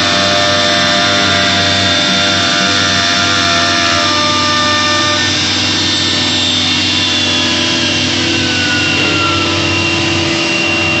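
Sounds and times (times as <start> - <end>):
loud machine noise: 0.0 - 11.0
router spindle high whine: 0.0 - 11.0.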